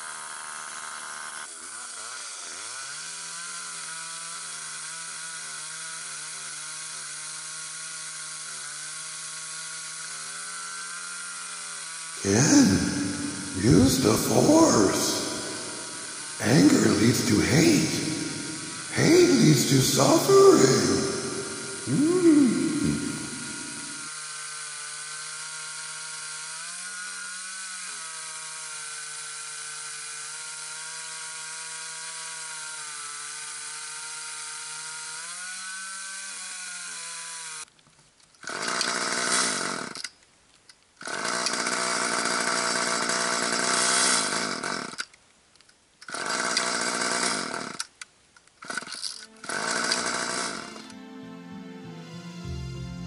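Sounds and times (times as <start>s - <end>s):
chainsaw cutting log: 0.0s - 40.2s, 41.0s - 45.1s, 46.0s - 51.0s.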